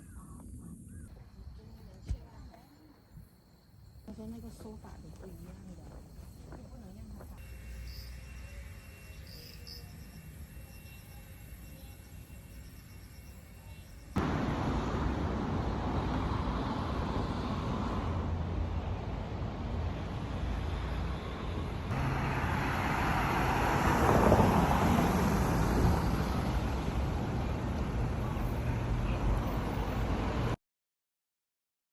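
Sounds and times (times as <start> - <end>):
road traffic rushing: 4.2 - 30.6.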